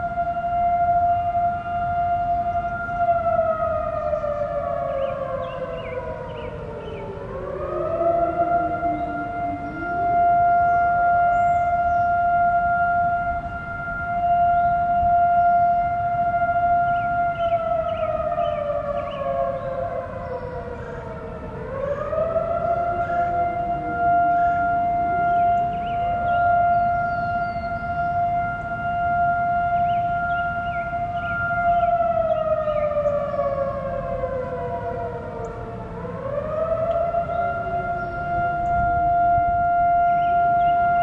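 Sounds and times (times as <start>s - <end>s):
high wailing warning siren: 0.0s - 41.0s
lower rising siren: 0.0s - 41.0s.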